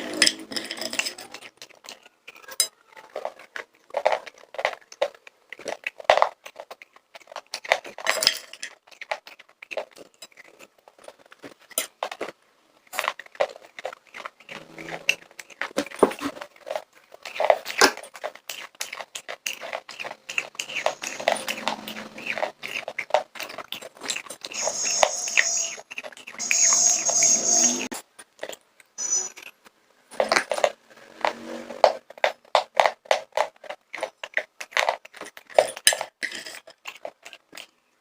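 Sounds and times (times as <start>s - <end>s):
popcorn crunching: 0.0s - 27.0s, 27.9s - 37.9s.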